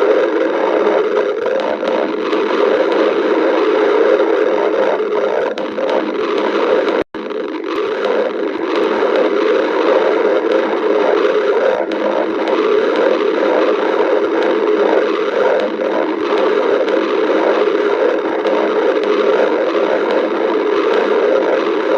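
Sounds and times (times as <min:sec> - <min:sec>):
stomach growling: 0:00.0 - 0:21.9.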